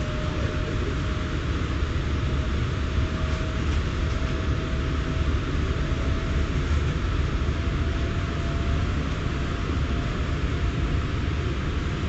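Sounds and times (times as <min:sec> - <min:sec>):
faint steady whine: 0:00.0 - 0:12.0
rumble of train wheels: 0:00.0 - 0:12.0.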